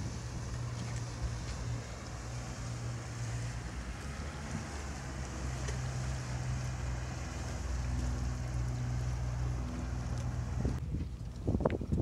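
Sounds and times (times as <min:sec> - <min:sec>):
choppy water: 0:00.0 - 0:12.0
outboard motor hum: 0:00.0 - 0:12.0
outboard motor passing by: 0:00.0 - 0:12.0
wind buffeting microphone: 0:00.0 - 0:12.0.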